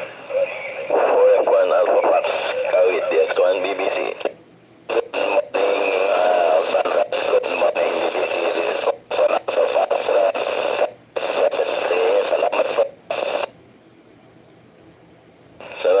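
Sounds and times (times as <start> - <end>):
voice over radio static: 0.0 - 13.5, 15.6 - 16.0.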